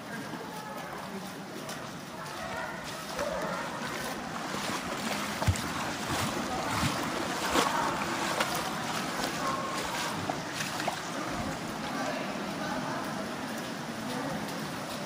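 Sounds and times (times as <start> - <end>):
river flowing and splashing: 0.0 - 15.0.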